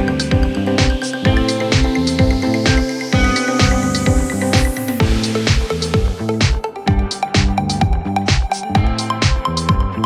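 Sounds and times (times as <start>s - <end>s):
kick drum beat: 0.0s - 10.0s
synth notes: 0.0s - 10.0s.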